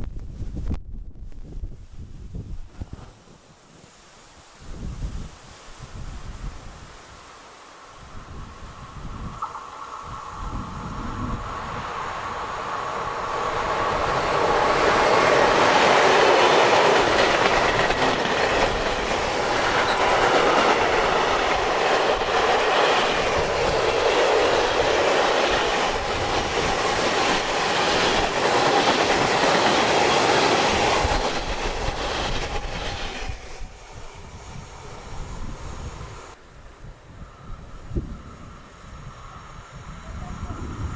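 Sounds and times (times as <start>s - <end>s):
freight train passing: 6.2s - 40.9s.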